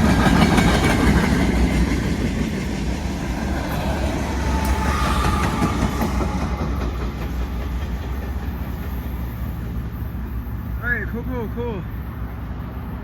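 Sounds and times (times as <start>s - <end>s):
diesel locomotive rumble: 0.0s - 13.0s
train wheels on rails: 0.0s - 13.0s.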